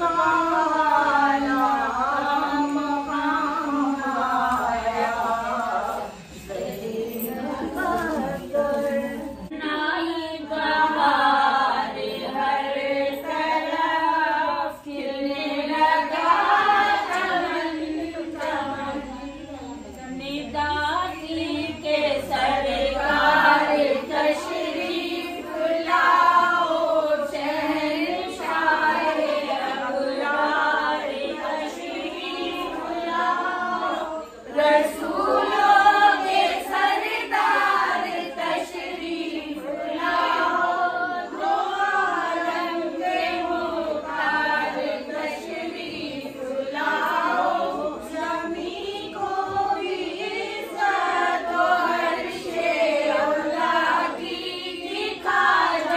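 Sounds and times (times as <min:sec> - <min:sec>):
women singing together: 0:00.0 - 0:55.9.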